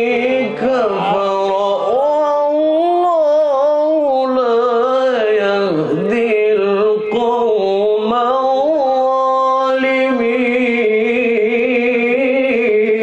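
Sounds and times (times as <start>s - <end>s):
young man chanting recitation: 0.0s - 13.0s.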